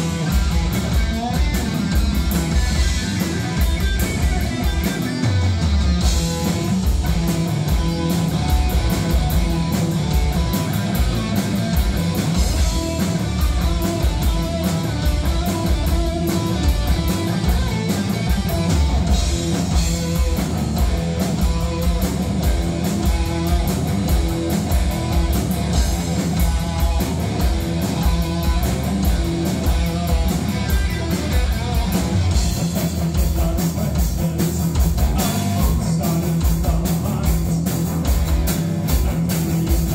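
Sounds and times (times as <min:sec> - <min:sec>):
drum kit beat: 0:00.0 - 0:39.9
electric bass: 0:00.0 - 0:39.9
electric guitar: 0:00.0 - 0:39.9.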